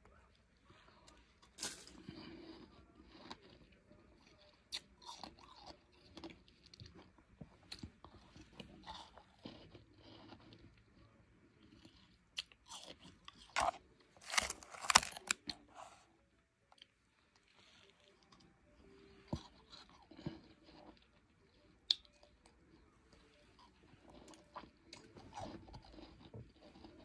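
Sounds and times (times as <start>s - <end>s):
crunching and chewing ice: 1.5s - 15.7s, 19.3s - 27.0s.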